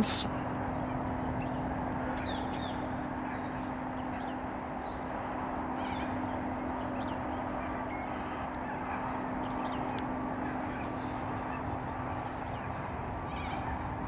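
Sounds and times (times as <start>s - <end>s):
birds chirping: 0.0s - 14.0s
distant jet engines droning: 0.0s - 14.0s.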